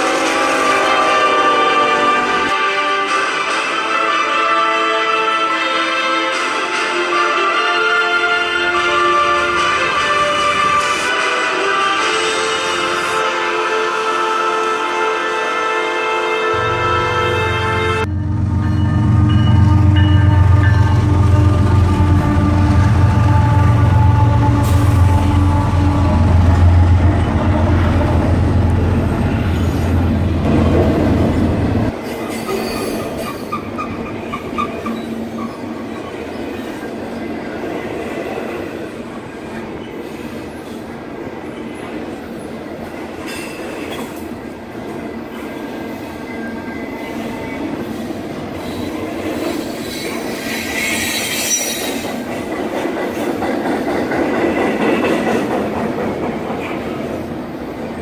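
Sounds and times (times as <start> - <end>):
diesel locomotive engine drone: 0.0 - 58.0
rail cars rolling: 0.0 - 58.0.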